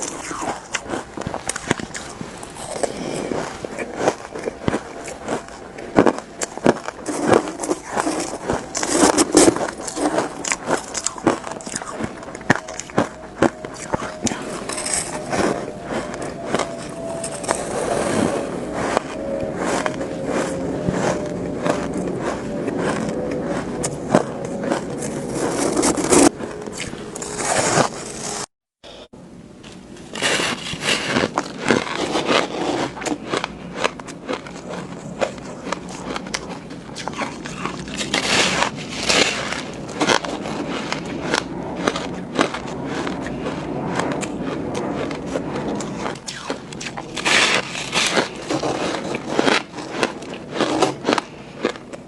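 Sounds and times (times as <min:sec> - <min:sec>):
chewing shaved ice: 0:00.0 - 0:28.4, 0:30.2 - 0:52.0.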